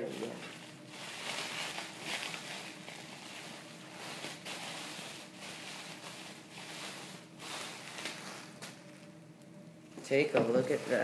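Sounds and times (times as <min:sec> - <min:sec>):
packing material rustling: 0:00.0 - 0:09.2.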